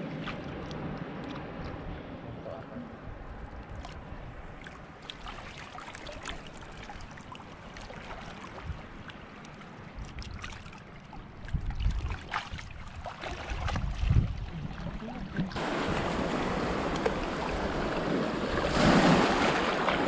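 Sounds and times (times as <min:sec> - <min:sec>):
small waves washing: 0:03.8 - 0:20.0
water splashing around wading legs: 0:03.8 - 0:20.0.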